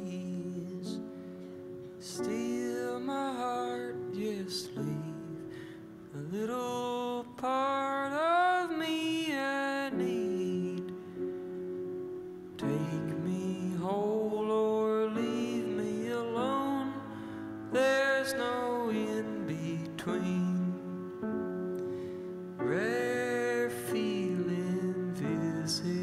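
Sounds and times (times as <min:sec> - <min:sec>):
man singing into microphone: 0:00.0 - 0:01.1, 0:02.0 - 0:11.0, 0:12.6 - 0:21.1, 0:22.6 - 0:26.0
piano chords: 0:00.0 - 0:26.0.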